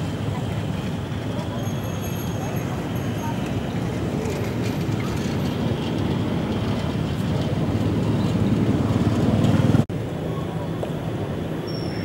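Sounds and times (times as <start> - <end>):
traffic rumble on road: 0.0 - 12.0.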